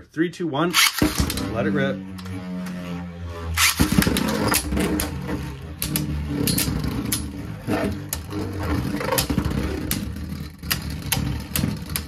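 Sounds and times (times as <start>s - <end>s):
spinning tops whirring: 0.7s - 12.0s.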